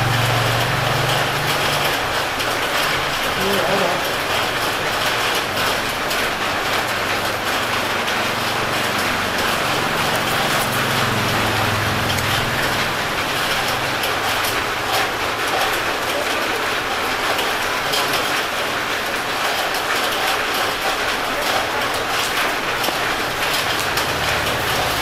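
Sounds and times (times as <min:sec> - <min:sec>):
traffic engine hum: 0:00.0 - 0:25.0.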